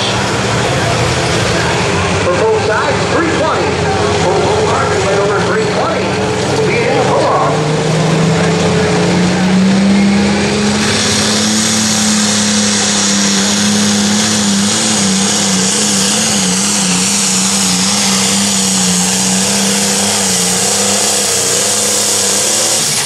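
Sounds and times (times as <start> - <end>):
diesel engine under heavy load: 0.0 - 23.0
high turbo whine: 0.0 - 23.0.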